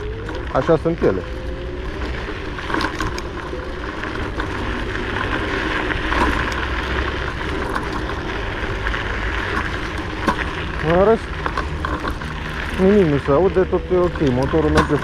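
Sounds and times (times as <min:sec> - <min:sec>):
electric scooter rumbling: 0:00.0 - 0:15.0
suspension creaking and clicking: 0:00.0 - 0:15.0.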